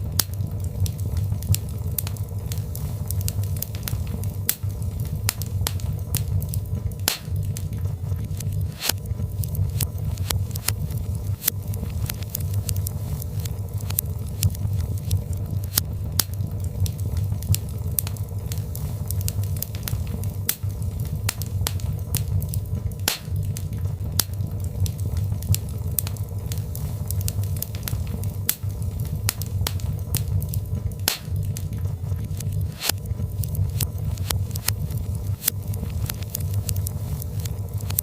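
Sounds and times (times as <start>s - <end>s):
fire crackling and popping: 0.0s - 38.0s
low rumble of flames: 0.0s - 38.0s.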